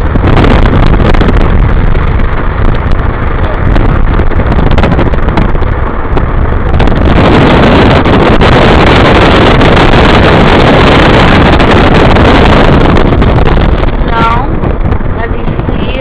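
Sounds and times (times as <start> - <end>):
car driving rumble: 0.0 - 16.0
wind buffeting microphone: 0.0 - 16.0.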